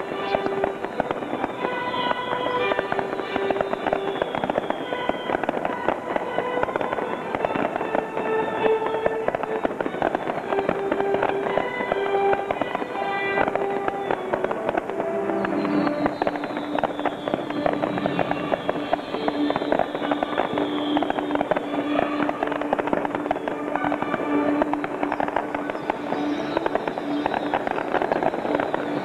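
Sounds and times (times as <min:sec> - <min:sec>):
fireworks crackling and bursting: 0:00.0 - 0:29.0.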